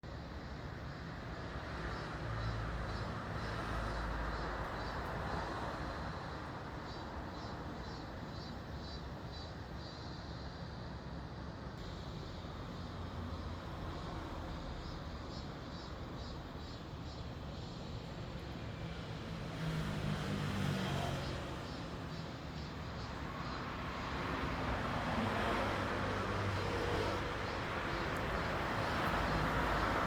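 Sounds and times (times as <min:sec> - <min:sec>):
road traffic rumble: 0:00.2 - 0:09.8, 0:11.8 - 0:30.0.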